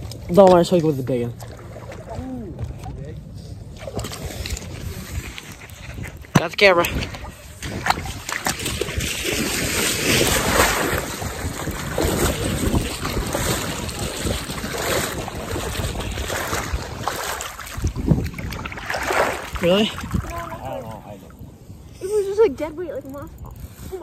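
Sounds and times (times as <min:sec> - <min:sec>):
water sloshing around waders: 0:00.0 - 0:24.0
wind buffeting microphone: 0:02.0 - 0:24.0.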